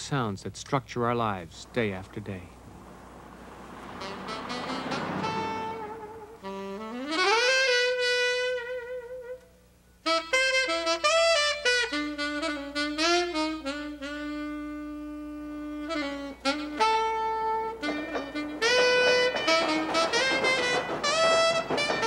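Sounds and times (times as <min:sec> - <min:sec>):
solo saxophone: 0:03.8 - 0:22.0.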